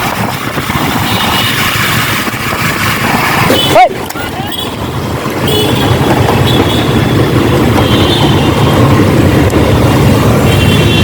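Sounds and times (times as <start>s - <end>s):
motorcycle engine rumbling: 0.0s - 11.0s
road traffic noise: 0.0s - 11.0s.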